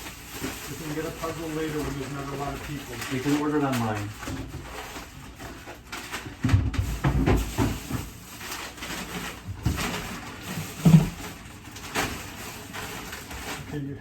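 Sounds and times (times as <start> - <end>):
groceries knocking and thumping: 0.0 - 14.0
groceries rustling: 0.0 - 14.0.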